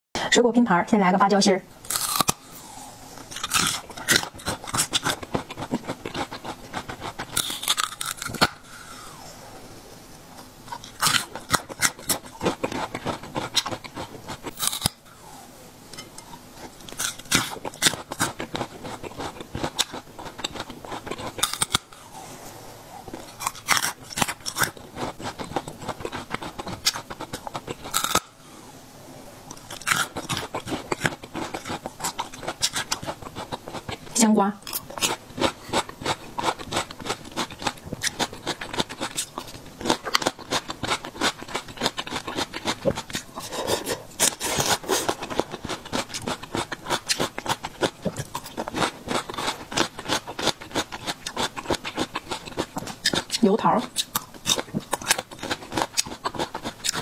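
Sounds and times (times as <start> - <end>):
crunching and chewing: 1.8 - 9.3, 10.2 - 22.3, 22.9 - 28.4, 29.4 - 57.0.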